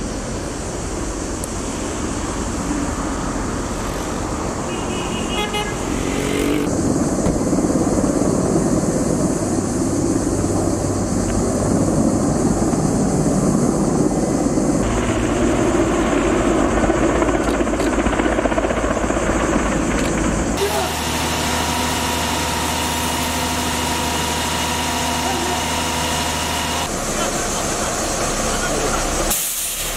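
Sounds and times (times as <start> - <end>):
helicopter engine and rotor: 0.0 - 4.8, 5.6 - 29.3.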